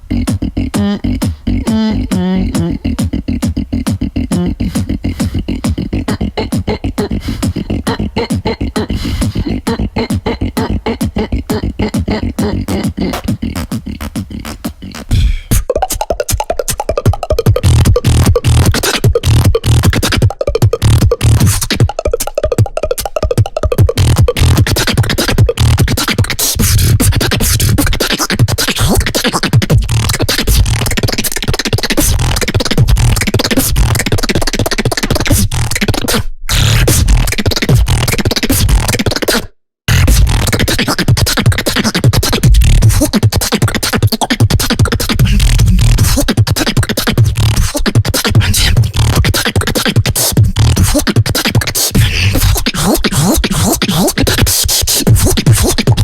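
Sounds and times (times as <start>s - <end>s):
beatboxing: 0.0s - 56.0s.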